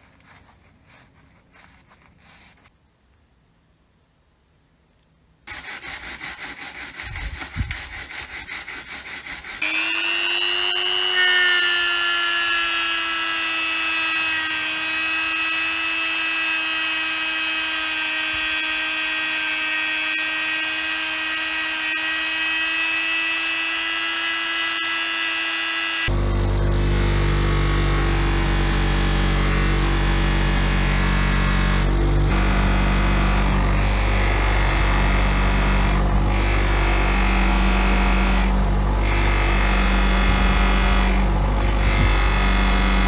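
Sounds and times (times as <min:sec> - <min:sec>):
power tool motor whining: 0:05.5 - 0:43.0.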